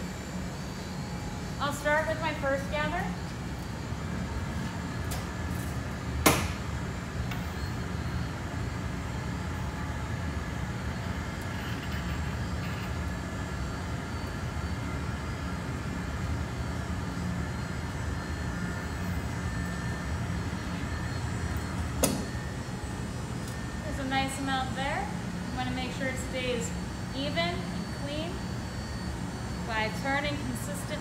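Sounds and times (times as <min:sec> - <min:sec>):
furnace and ventilation rumble: 0:00.0 - 0:31.0.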